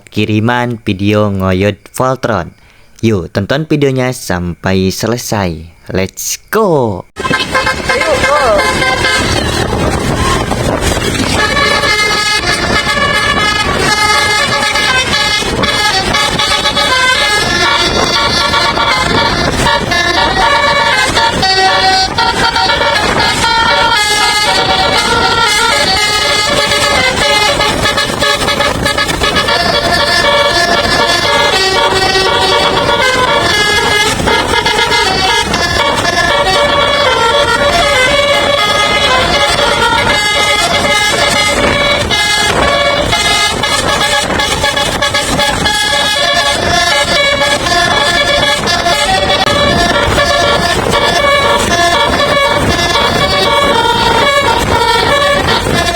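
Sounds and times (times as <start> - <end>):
bus musical air horn tune: 7.2 - 55.9.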